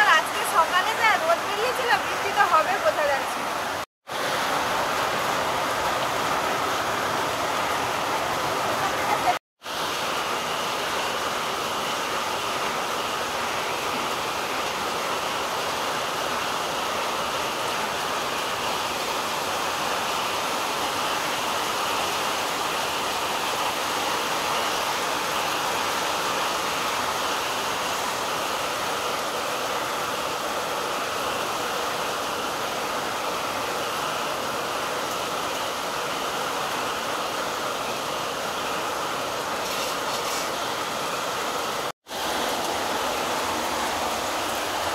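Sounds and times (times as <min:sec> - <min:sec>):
heavy rain on trees and pond: 0:00.0 - 0:44.9.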